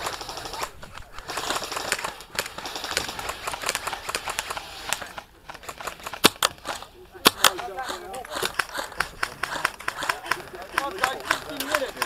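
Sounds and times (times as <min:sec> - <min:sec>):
airsoft guns clicking and snapping: 0:00.0 - 0:12.0
loud sharp gunshots: 0:00.0 - 0:12.0.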